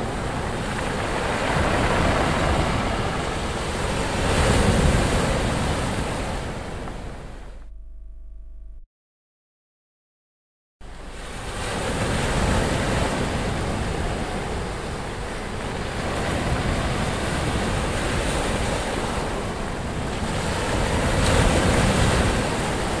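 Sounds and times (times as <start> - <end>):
sea surf breaking: 0.0 - 7.6, 10.9 - 23.0.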